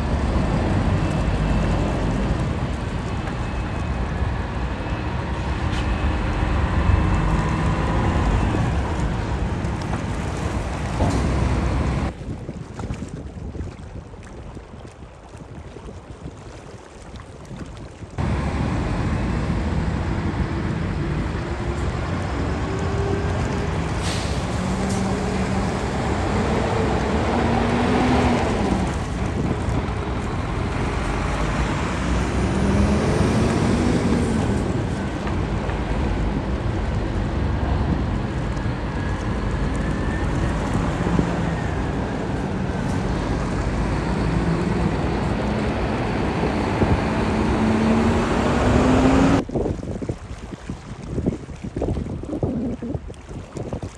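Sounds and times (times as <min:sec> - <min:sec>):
diesel truck engines revving: 0:00.0 - 0:12.1, 0:18.2 - 0:49.4.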